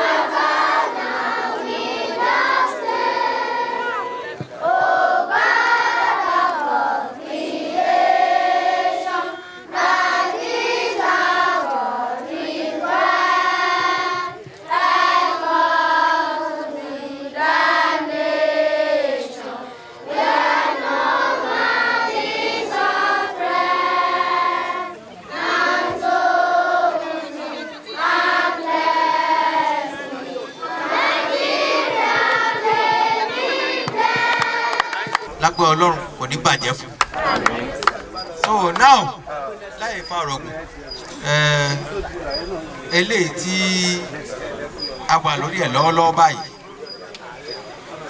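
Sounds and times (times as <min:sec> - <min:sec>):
group of voices singing: 0:00.0 - 0:48.0.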